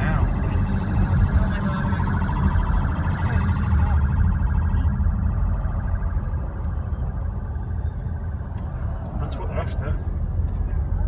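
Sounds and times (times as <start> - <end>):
police siren wailing: 0.0 - 9.4
road rumble: 0.0 - 11.0.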